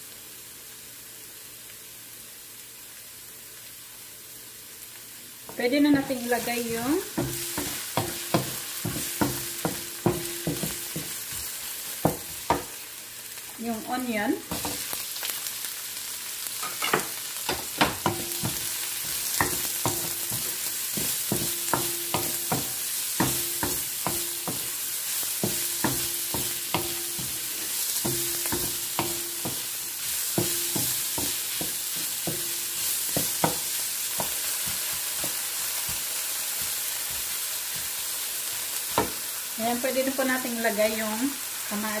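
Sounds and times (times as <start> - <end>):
onion sizzling in oil: 0.0 - 42.0.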